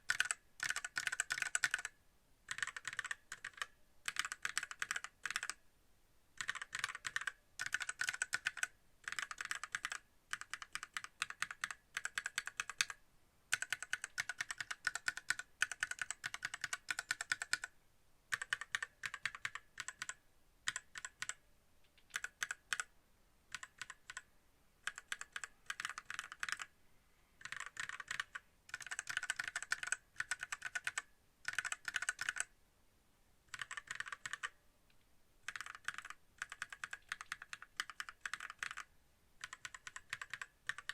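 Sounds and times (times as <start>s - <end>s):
mechanical keyboard keys clacking: 0.1s - 1.9s, 2.5s - 5.6s, 6.4s - 17.7s, 18.3s - 21.4s, 22.0s - 22.9s, 24.9s - 26.7s, 27.4s - 32.5s, 33.5s - 34.5s, 35.5s - 40.9s.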